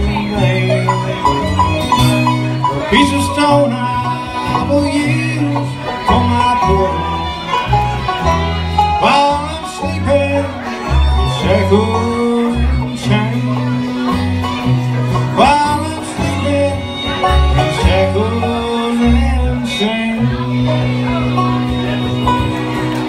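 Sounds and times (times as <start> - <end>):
acoustic guitar: 0.0 - 23.0
banjo: 0.0 - 23.0
fiddle: 0.0 - 23.0
walking bass line: 0.0 - 23.0.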